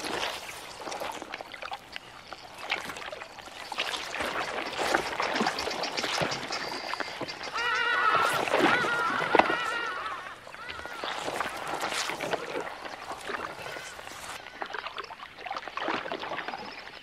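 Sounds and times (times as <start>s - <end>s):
water and mud sloshing: 0.0s - 17.0s.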